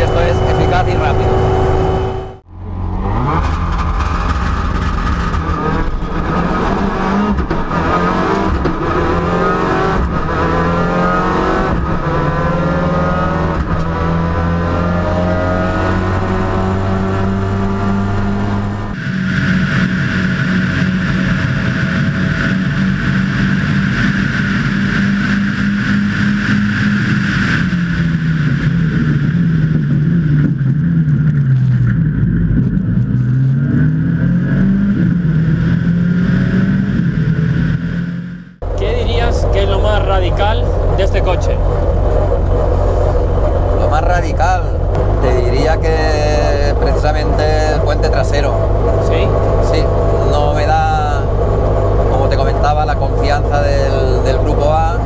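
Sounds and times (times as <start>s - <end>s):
turbocharged car engine revving: 0.0s - 55.0s.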